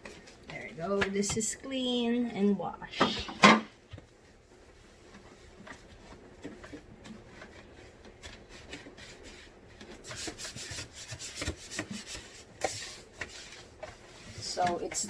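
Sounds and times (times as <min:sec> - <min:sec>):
scrubbing back and forth: 0:00.0 - 0:15.0.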